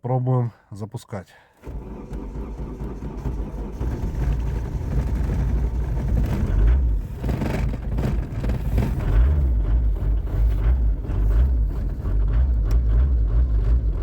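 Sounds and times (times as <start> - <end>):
diesel engine running rough: 1.6 - 14.0.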